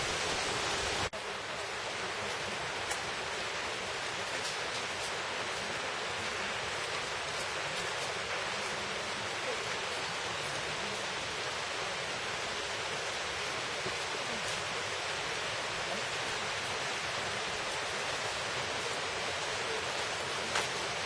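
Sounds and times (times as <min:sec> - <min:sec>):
stream rushing: 0:00.0 - 0:21.0.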